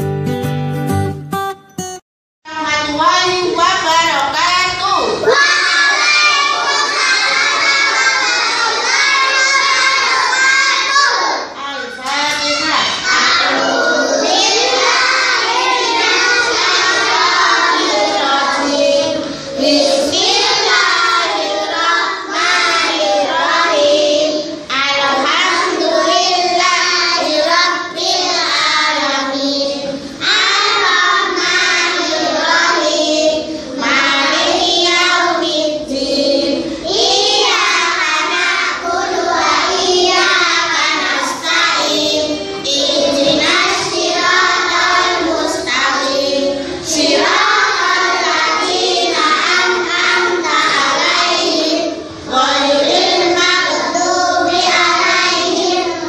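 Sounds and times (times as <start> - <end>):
children singing in unison: 5.2 - 56.0.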